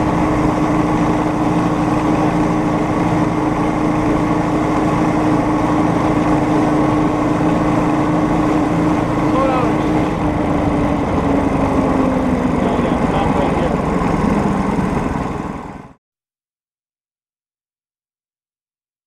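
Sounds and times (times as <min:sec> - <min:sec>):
small engine running steadily: 0:00.0 - 0:16.0.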